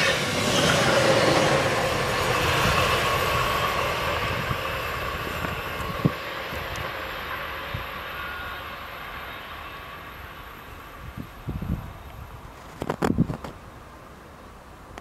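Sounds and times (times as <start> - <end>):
train rolling noise and hum: 0.0 - 15.0.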